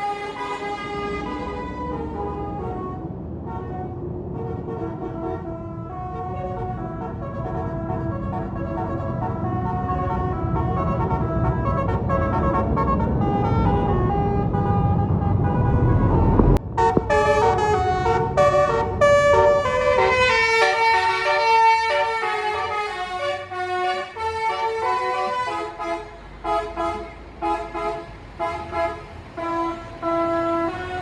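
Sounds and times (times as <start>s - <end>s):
low engine rumble: 0.0s - 24.9s
bus horn melody: 0.0s - 31.0s.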